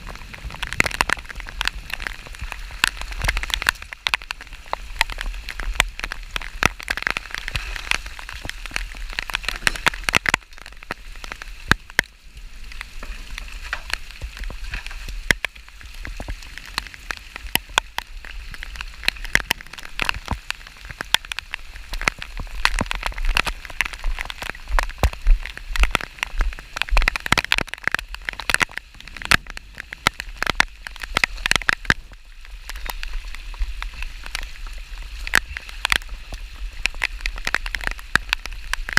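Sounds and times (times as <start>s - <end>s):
rain falling: 0.0s - 38.9s
raindrops ticking near microphone: 0.0s - 38.9s.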